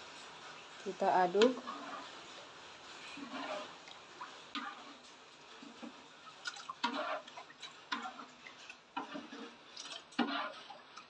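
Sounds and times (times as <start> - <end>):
utensil stirring liquid in a wok: 0.0 - 11.0.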